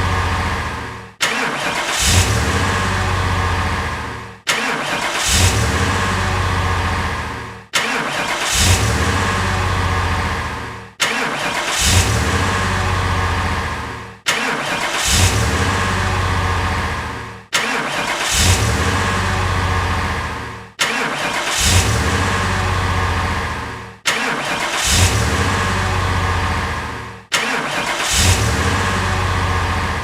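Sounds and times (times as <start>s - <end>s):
car engine starting and running: 0.0s - 30.0s.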